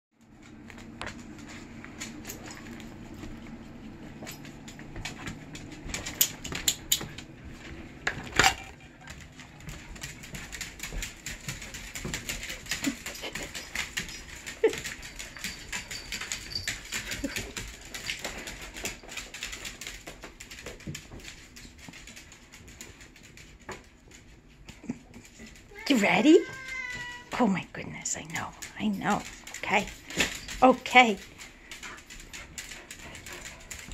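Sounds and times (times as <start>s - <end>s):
dog claws clicking on hard floor: 0.2s - 3.4s, 4.2s - 27.4s, 28.2s - 33.9s.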